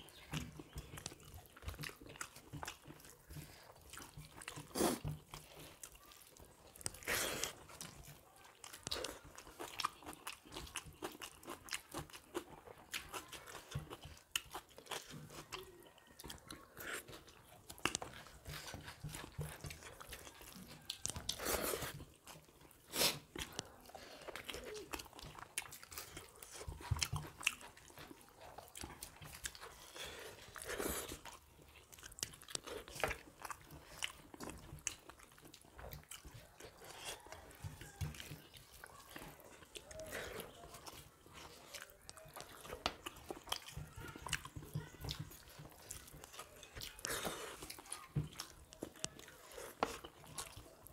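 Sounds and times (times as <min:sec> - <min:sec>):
people chewing food: 0:00.0 - 0:50.9.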